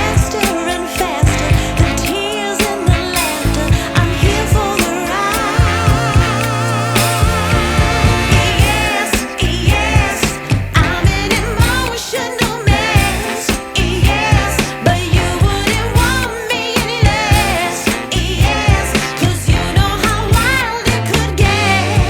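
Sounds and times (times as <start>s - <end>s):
pop music with sung vocal: 0.0s - 22.0s.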